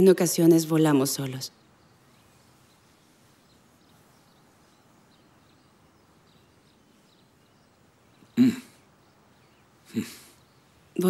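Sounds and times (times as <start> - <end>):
faint bird chirps: 0.6 - 11.0.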